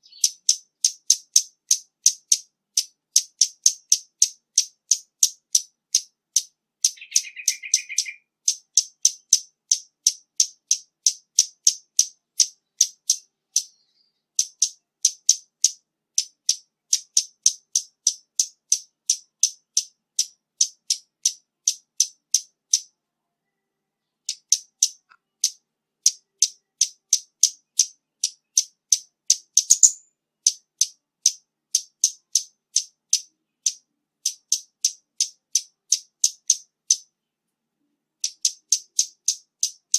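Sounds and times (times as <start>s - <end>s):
bird calling with high ticking notes: 0.0s - 39.9s.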